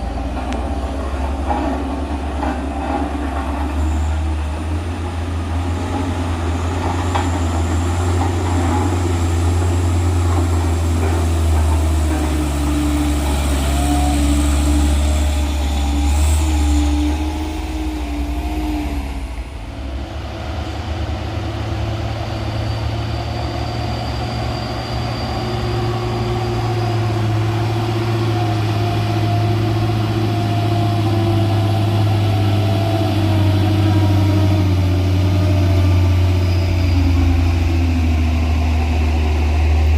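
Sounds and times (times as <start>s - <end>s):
diesel truck engines droning: 0.0s - 39.9s.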